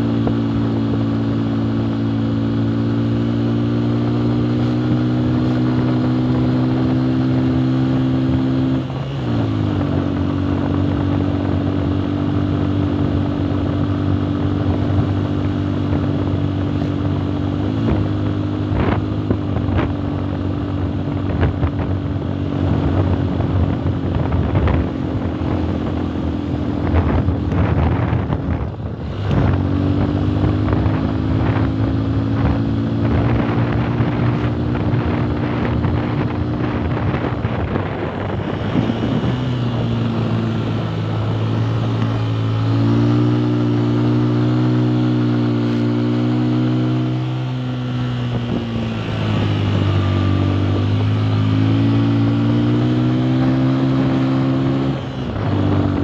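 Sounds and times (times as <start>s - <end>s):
motorcycle engine running: 0.0s - 56.0s
wind buffeting microphone: 3.6s - 56.0s.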